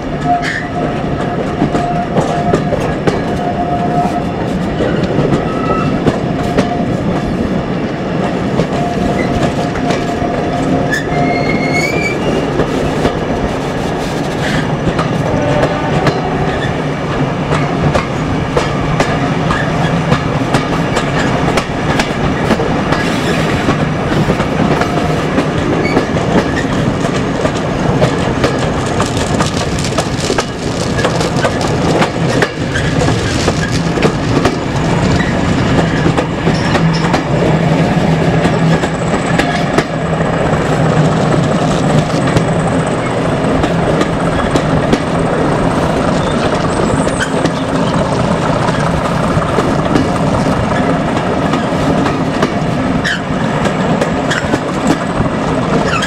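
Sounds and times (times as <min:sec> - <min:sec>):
train running noise: 0:00.0 - 0:56.0
train wheels clattering: 0:00.0 - 0:56.0.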